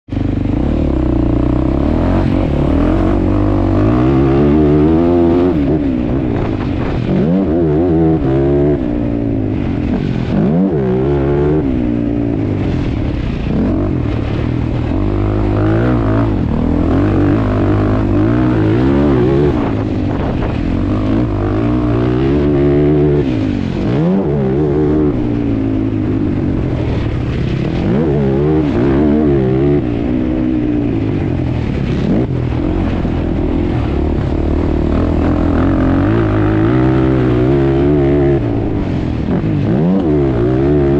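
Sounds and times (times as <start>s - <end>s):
atv engine revving: 0.1s - 40.9s.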